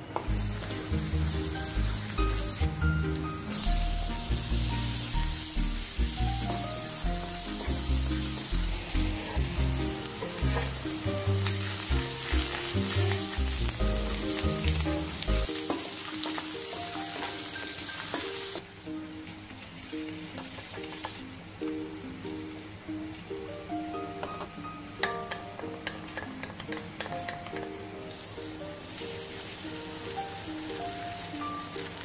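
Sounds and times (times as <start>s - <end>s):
vegetables sizzling in fat: 0.0s - 25.1s, 27.6s - 32.0s
background music with low notes: 0.0s - 32.0s.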